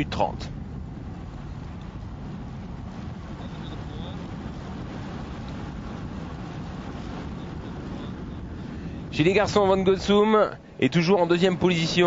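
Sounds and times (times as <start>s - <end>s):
vehicle engine rumble: 0.0s - 12.0s
wind rushing past microphone: 0.0s - 12.0s.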